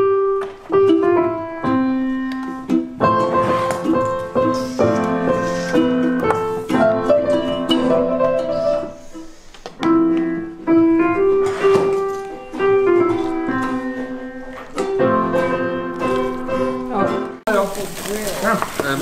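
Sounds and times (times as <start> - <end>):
piano melody over chords: 0.0 - 19.0.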